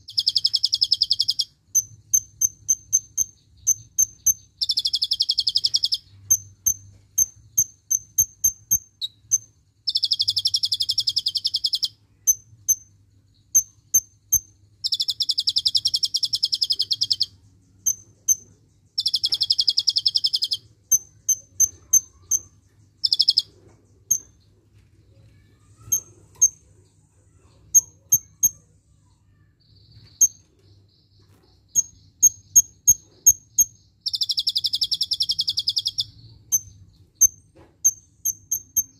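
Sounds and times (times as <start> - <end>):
sunbird singing: 0.0 - 24.6, 25.3 - 38.9.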